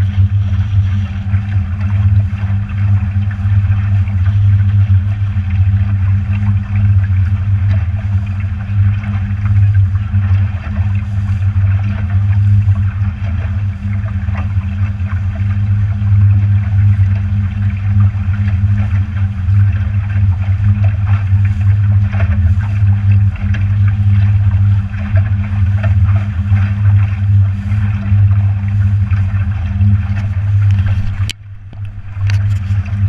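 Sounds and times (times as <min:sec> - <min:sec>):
motorboat engine droning: 0:00.0 - 0:33.0
wind and water rushing past hull: 0:00.0 - 0:33.0.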